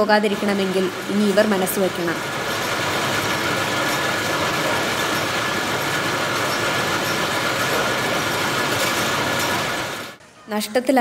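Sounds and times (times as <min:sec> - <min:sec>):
spinning machines whirring: 0:00.0 - 0:10.2.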